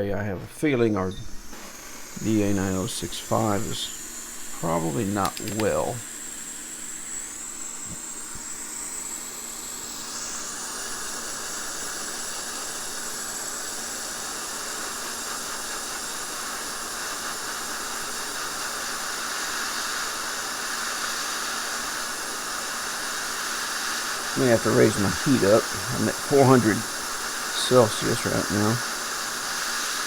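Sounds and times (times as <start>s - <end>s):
hot-air station hissing: 0.0s - 30.0s.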